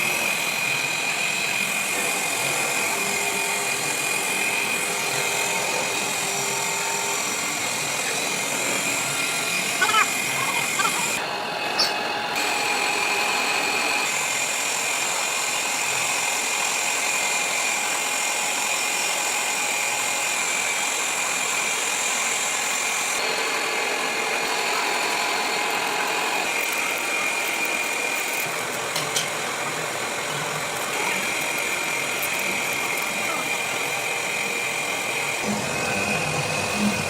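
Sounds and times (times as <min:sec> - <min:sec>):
workshop machinery running: 0:00.0 - 0:37.0.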